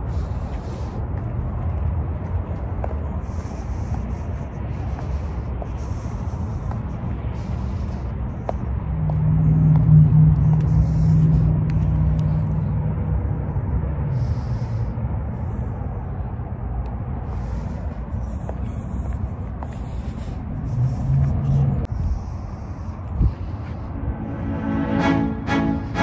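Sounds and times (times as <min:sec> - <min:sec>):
low outdoor rumble: 0:00.0 - 0:26.0
vehicle passing: 0:00.0 - 0:26.0.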